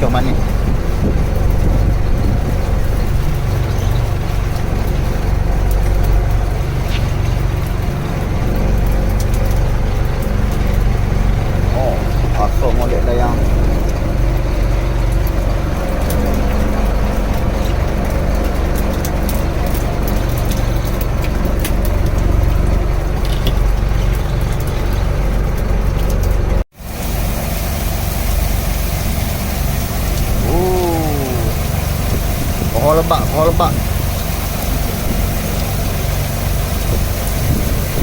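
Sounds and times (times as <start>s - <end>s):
boat engine running: 0.0s - 38.0s
drizzling rain: 0.0s - 38.0s.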